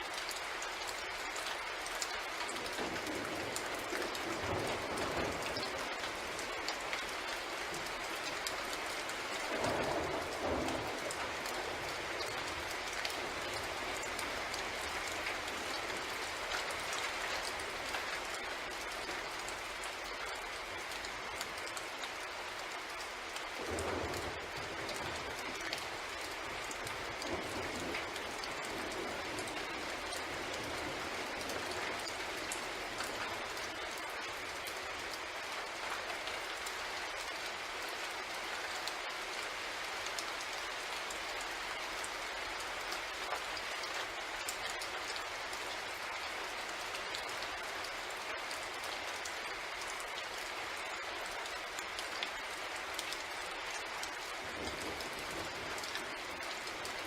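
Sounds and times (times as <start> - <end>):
steady rain: 0.0 - 57.0
raindrops ticking: 0.1 - 38.0, 38.7 - 57.0.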